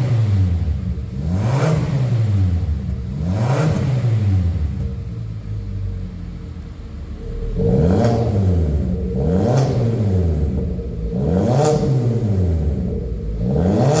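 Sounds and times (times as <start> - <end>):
car exhaust idling and revving: 0.0 - 14.0.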